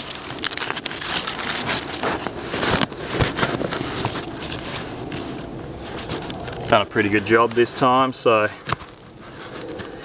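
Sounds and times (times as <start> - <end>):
strap and fabric rustling and scraping: 0.0 - 7.9, 8.5 - 10.0.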